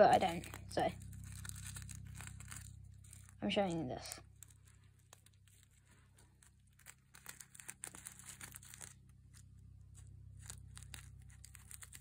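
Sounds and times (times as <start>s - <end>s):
sequins rustling and clicking: 0.0s - 12.0s.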